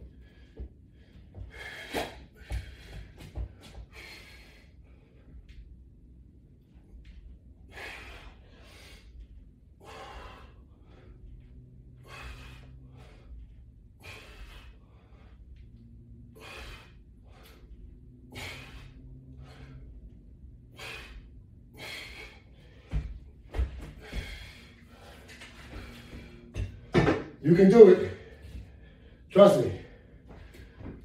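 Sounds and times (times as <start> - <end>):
man breathing hard: 0.0 - 5.8, 7.5 - 27.0, 27.8 - 31.0.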